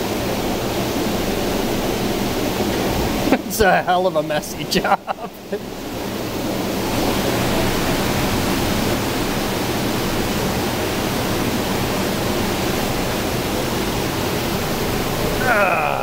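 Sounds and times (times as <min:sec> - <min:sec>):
steady rushing roar: 0:00.0 - 0:16.0.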